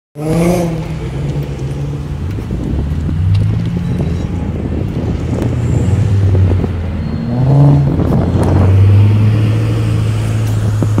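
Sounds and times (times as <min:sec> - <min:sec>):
engine revving: 0:00.2 - 0:02.3, 0:03.1 - 0:11.0
loud car exhaust: 0:00.2 - 0:11.0.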